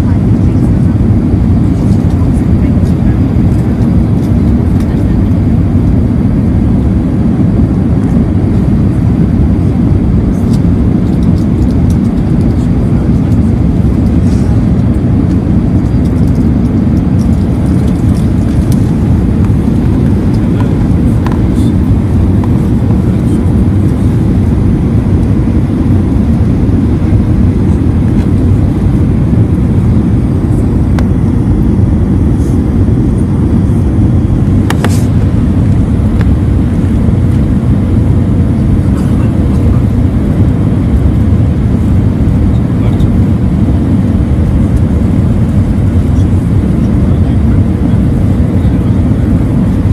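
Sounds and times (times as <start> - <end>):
jet engine rumble in cabin: 0.0 - 49.9.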